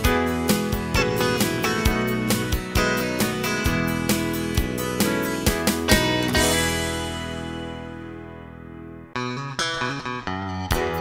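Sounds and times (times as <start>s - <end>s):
held music chord ringing: 0.0s - 10.0s.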